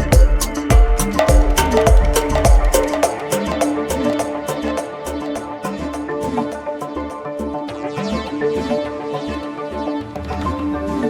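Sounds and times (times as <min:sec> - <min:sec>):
electronic dance music: 0:00.0 - 0:10.2.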